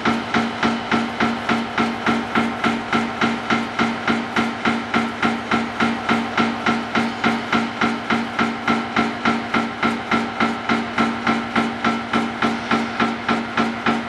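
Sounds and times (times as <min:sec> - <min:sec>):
milling machine hum: 0:00.0 - 0:14.0.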